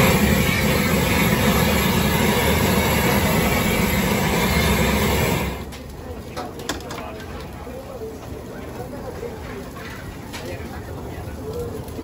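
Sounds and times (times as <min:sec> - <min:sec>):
gas torch flame roaring: 0:00.0 - 0:12.0.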